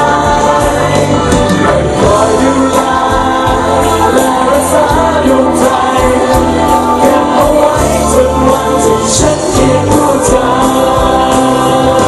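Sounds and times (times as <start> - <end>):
amplified pop backing music: 0.0 - 12.0
men singing into microphones: 0.0 - 12.0.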